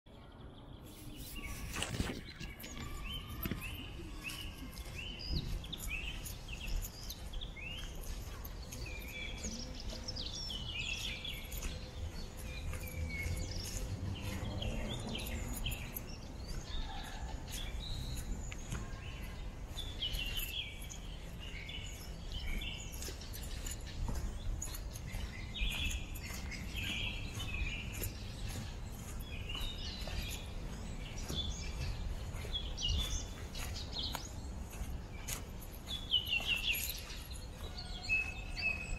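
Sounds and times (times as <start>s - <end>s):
small birds chirping: 0.1s - 38.9s.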